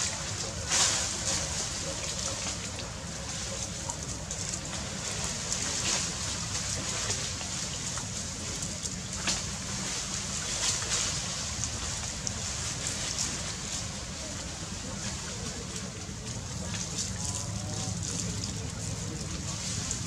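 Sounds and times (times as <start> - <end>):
river water washing: 0.0 - 20.0.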